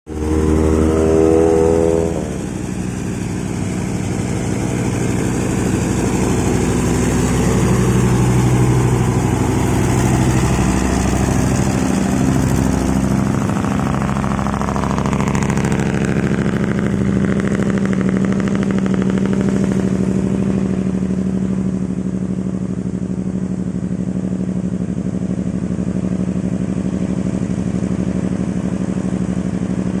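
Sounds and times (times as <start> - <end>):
diesel truck engine labouring: 0.1 - 30.0.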